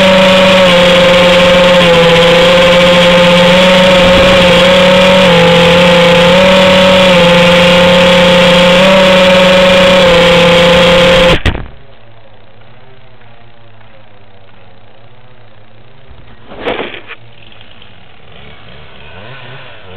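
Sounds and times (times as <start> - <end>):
drone motors whining hum: 0.0 - 19.9.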